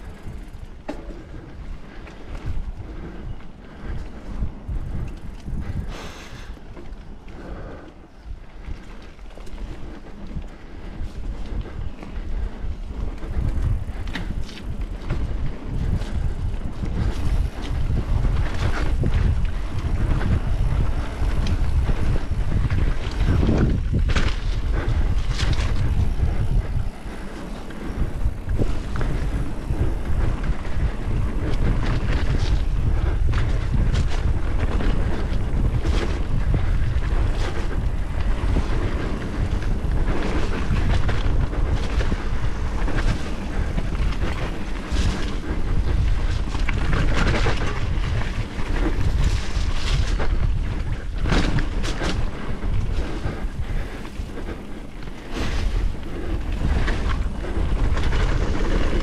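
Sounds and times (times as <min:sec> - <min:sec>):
bike rattling over bumps: 0:00.0 - 0:59.0
wind buffeting microphone: 0:00.0 - 0:59.0.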